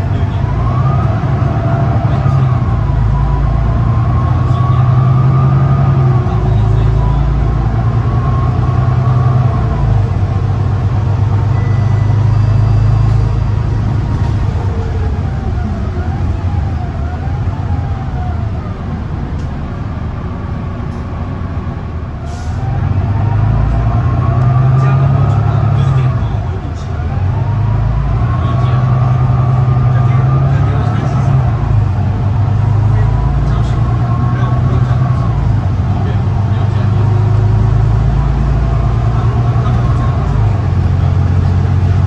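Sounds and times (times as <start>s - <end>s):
bus diesel engine drone: 0.0s - 42.0s
drivetrain whine: 0.0s - 42.0s.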